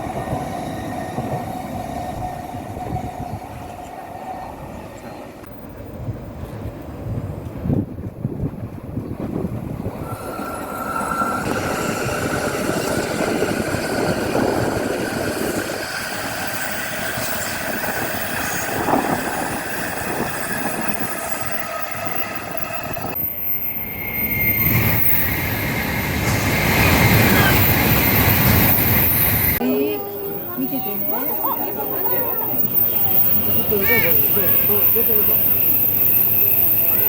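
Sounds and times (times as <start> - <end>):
bullet train rushing: 0.0 - 37.0.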